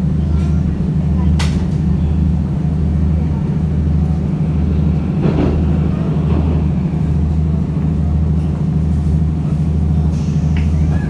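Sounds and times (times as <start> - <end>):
train engine drone: 0.0 - 11.0
train running noise: 0.0 - 11.0.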